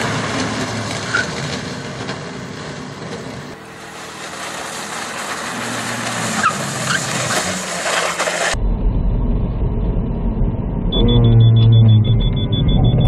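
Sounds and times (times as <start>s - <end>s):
car driving at speed: 0.0s - 13.0s.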